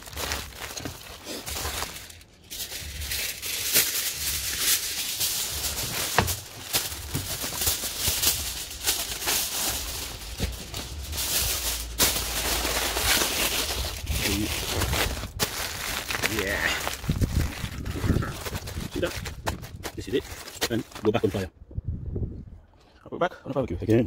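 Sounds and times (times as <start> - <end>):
aluminium foil crinkling: 0.0 - 21.4.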